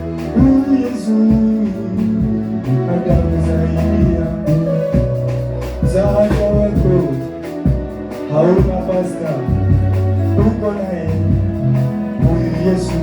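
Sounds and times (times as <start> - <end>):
bass line: 0.0 - 13.0
steady drum beat: 0.0 - 13.0
worship band music: 0.0 - 13.0.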